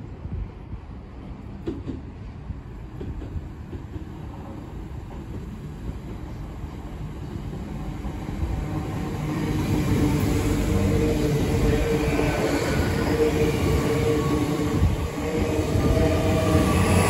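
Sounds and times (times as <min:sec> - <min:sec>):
train mechanical hum: 0:00.0 - 0:17.0
train wheels rumbling: 0:00.5 - 0:17.0.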